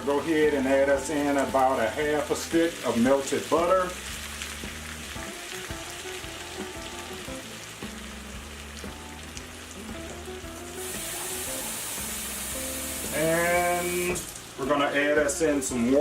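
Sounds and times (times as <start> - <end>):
potatoes and sausage sizzling in a pan: 0.0 - 16.0.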